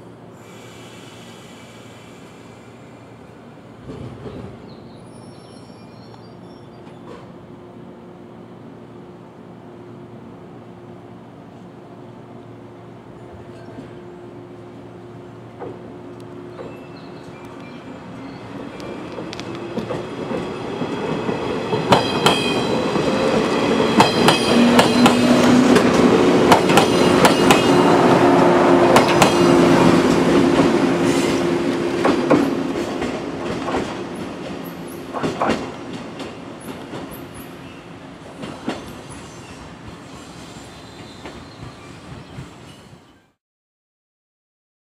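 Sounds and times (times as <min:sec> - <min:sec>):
train hum: 0:00.0 - 0:43.3.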